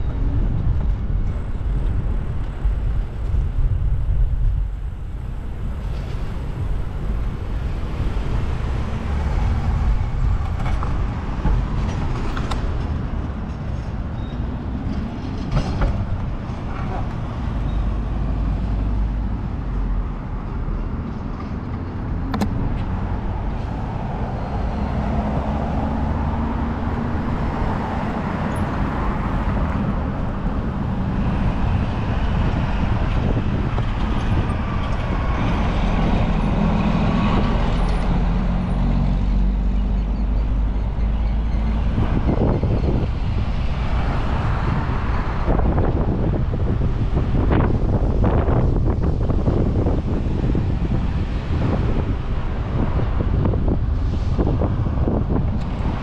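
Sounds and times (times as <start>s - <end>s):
passing motor traffic: 0.0s - 56.0s
wind rumble on microphone: 0.0s - 56.0s.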